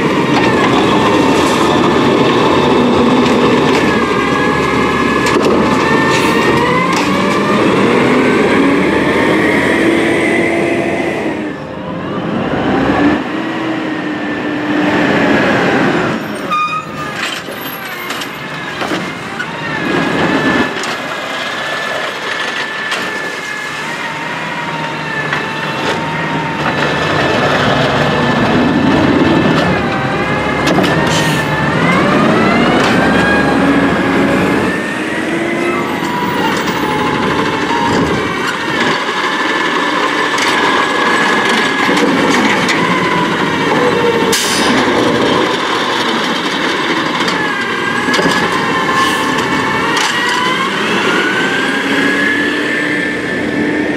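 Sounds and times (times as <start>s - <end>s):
garbage truck engine revving: 0.0s - 53.9s
hydraulics whining: 0.0s - 53.9s.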